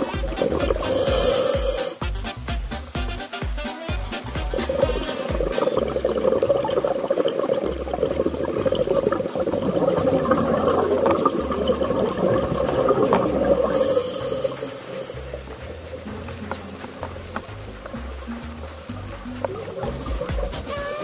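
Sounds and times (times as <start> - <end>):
scuba bubbles gurgling underwater: 0.0 - 2.0, 4.2 - 20.8
rush of water: 0.0 - 21.0.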